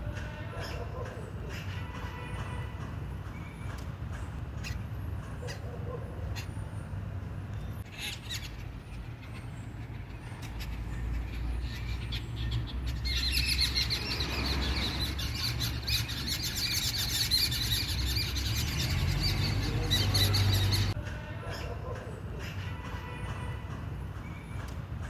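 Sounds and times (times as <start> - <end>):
birds chattering: 0.0 - 25.0.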